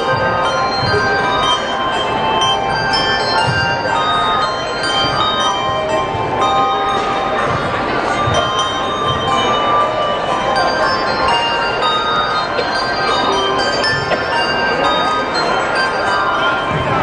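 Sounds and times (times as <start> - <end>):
handbell ensemble playing: 0.0 - 17.0.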